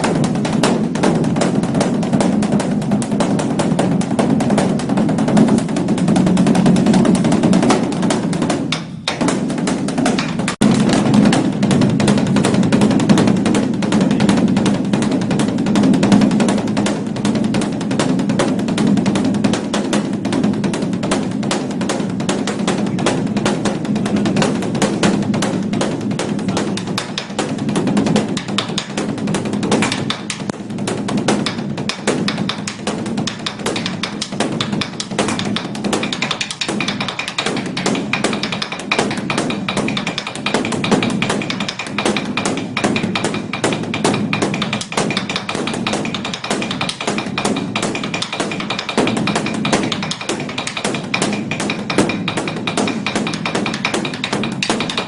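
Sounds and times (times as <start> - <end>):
deep ringing drum hum: 0.0 - 55.0
large drum struck rapidly: 0.0 - 55.0.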